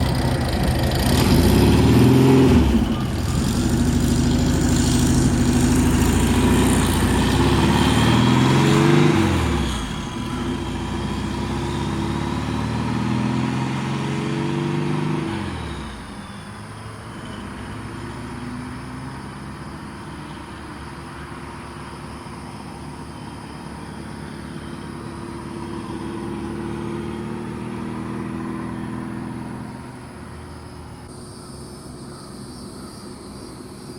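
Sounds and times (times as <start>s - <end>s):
car engine accelerating: 0.0s - 31.1s.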